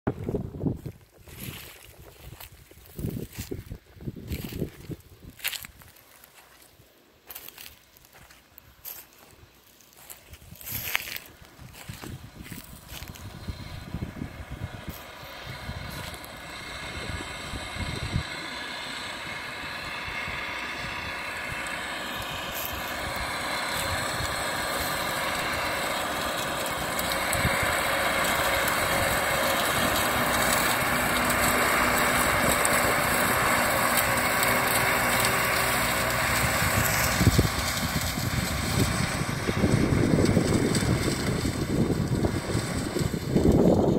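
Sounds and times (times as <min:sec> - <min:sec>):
tractor diesel engine running: 0:00.0 - 0:06.6, 0:07.2 - 0:43.9
wind buffeting microphone: 0:00.1 - 0:05.9, 0:10.3 - 0:18.4, 0:19.3 - 0:43.9.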